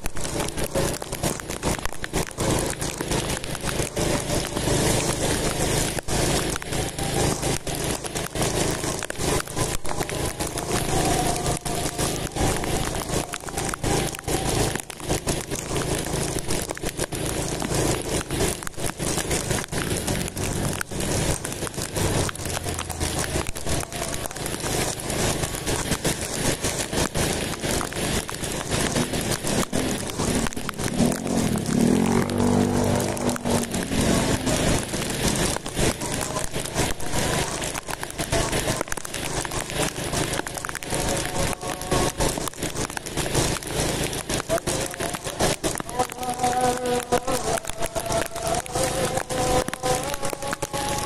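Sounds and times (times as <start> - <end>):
motorcycle engine hum: 0.0 - 51.0
wind and rain on microphone: 0.0 - 51.0.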